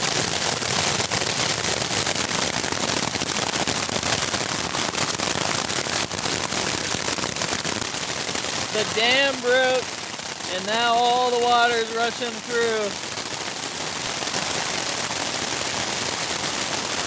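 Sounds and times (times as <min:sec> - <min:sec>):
rain and hail on tent fabric: 0:00.0 - 0:17.0.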